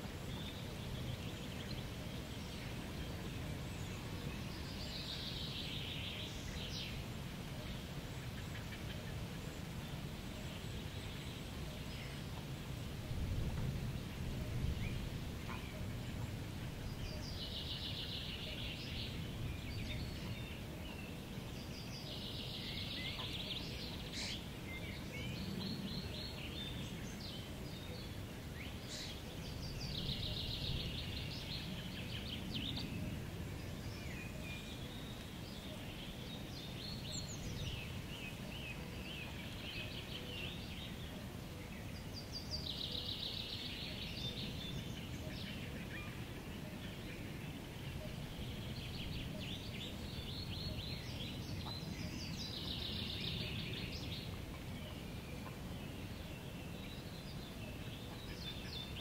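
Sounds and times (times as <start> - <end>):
songbirds calling: 0.0 - 59.0
wind rumbling on microphone: 0.0 - 59.0.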